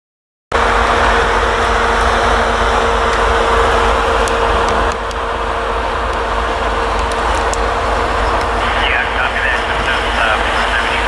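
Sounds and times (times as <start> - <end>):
diesel locomotive engines droning: 0.5 - 11.0.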